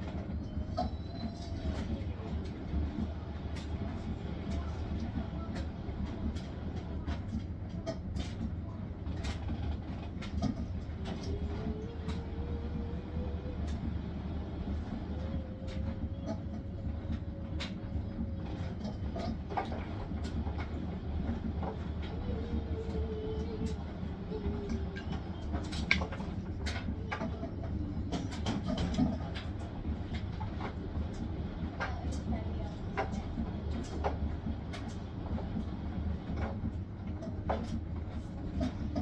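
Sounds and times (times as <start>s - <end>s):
washing machine spin rumble: 0.0s - 39.0s.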